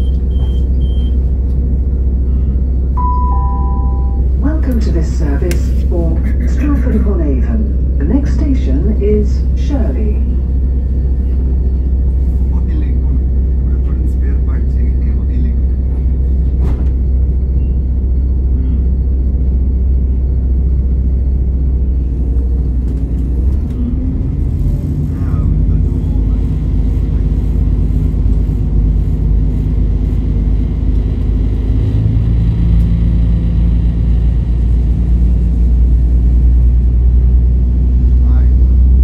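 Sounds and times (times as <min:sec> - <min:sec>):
train diesel engine rumbling: 0:00.0 - 0:39.0.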